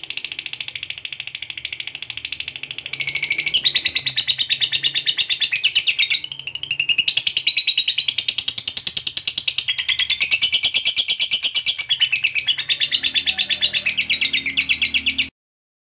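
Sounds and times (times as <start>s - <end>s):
lovebird chattering trill: 0.1s - 15.3s.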